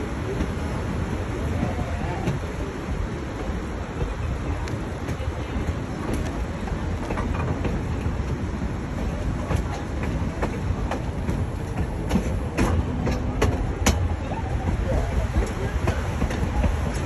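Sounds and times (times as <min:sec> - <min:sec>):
train rumbling on track: 0:00.0 - 0:17.0
wheels clicking and knocking: 0:00.0 - 0:17.0.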